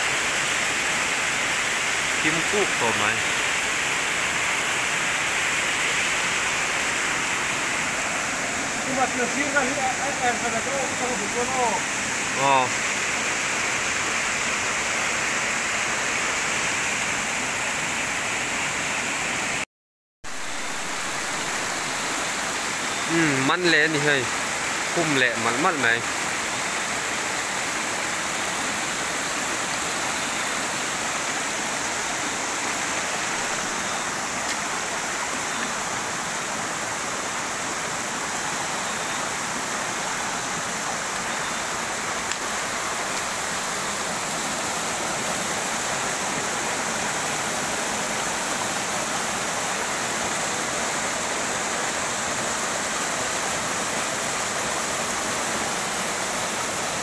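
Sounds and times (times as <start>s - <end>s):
stream flowing over stones: 0.0s - 19.6s, 20.2s - 57.0s.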